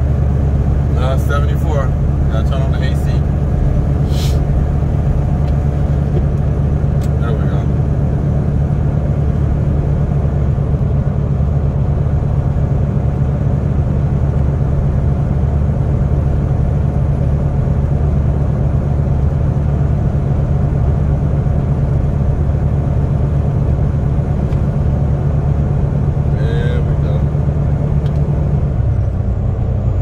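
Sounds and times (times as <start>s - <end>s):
truck diesel engine drone: 0.0s - 30.0s.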